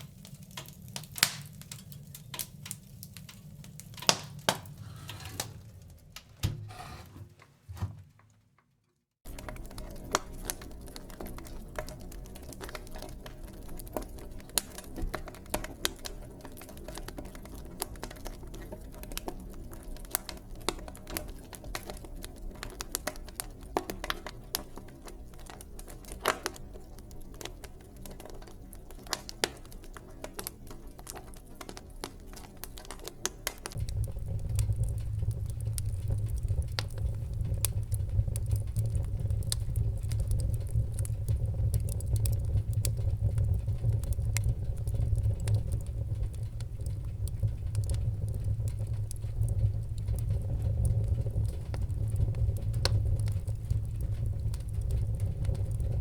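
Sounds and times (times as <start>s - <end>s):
wood fire crackling: 0.0s - 7.0s, 9.2s - 56.0s.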